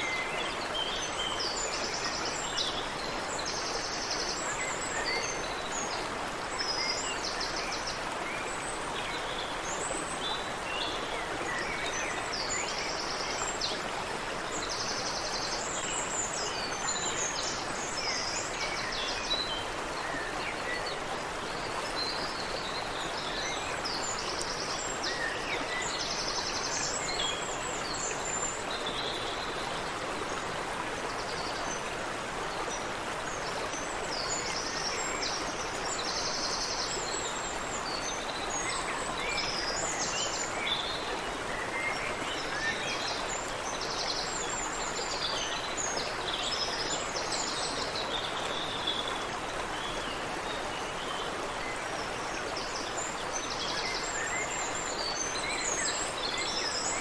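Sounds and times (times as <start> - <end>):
water running in a creek: 0.0 - 57.0.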